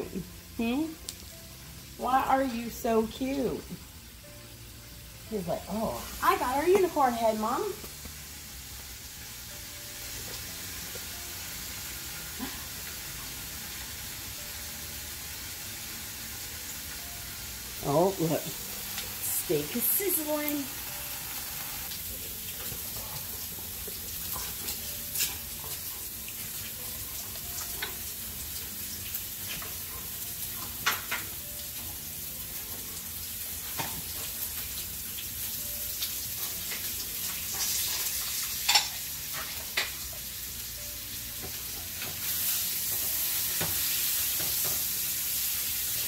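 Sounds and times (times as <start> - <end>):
steak sizzling in a frying pan: 0.0 - 46.0.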